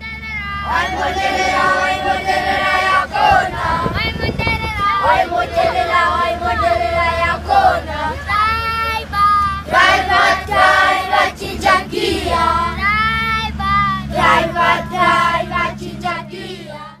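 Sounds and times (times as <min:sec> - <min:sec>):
children singing: 0:00.3 - 0:17.0.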